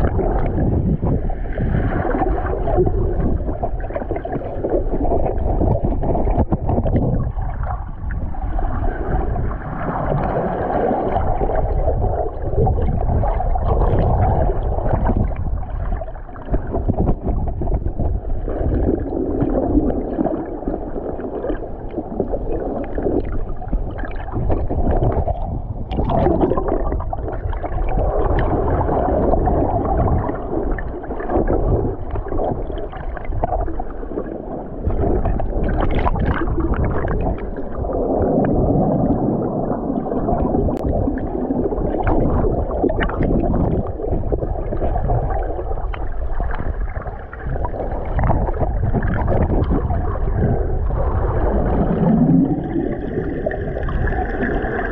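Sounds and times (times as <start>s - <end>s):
underwater rushing and gurgling water: 0.0s - 54.9s.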